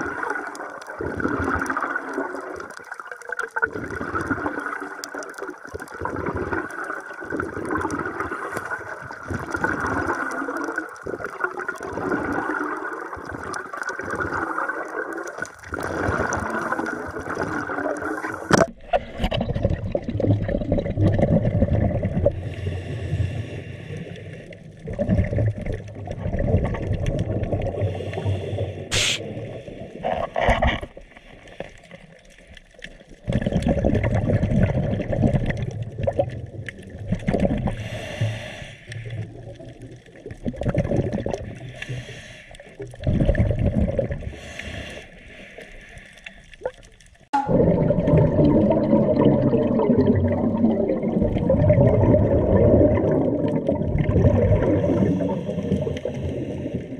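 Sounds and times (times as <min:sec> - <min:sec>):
underwater bubbles gurgling: 0:00.0 - 0:56.9.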